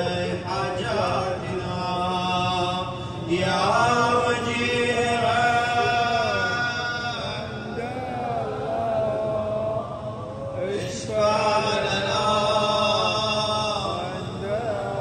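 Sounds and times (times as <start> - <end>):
men chanting a prayer: 0.0 - 15.0.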